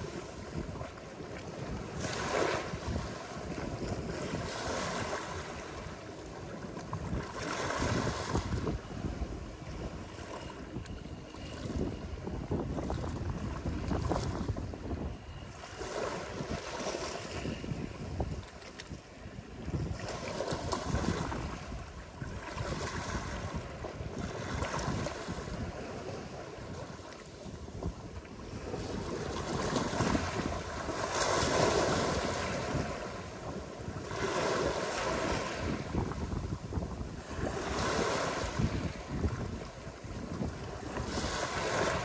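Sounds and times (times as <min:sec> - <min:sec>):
ocean waves breaking: 0:00.0 - 0:14.6, 0:15.5 - 0:42.0
wind buffeting microphone: 0:00.0 - 0:42.0.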